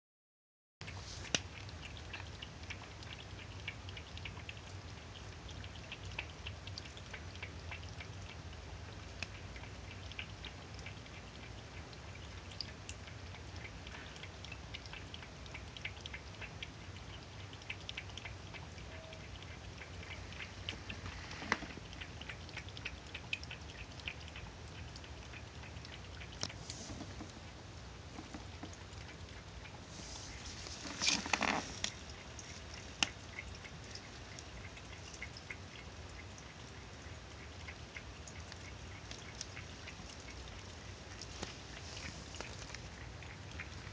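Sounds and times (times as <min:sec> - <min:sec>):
cat lapping water: 0:00.8 - 0:43.9.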